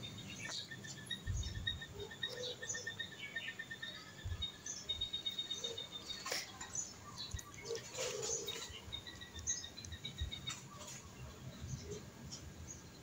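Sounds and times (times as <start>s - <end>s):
faint high chirping: 0.0s - 13.0s.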